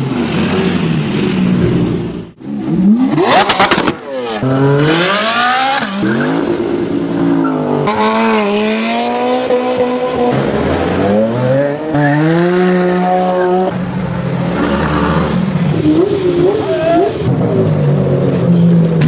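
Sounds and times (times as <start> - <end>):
car engines revving and accelerating: 0.0 - 19.0.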